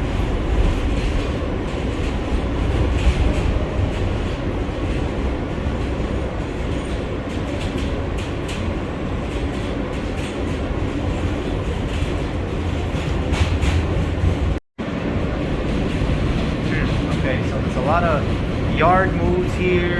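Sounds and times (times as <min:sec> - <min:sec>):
subway train rumbling: 0:00.0 - 0:19.9
wheels clicking on rails: 0:00.0 - 0:19.9.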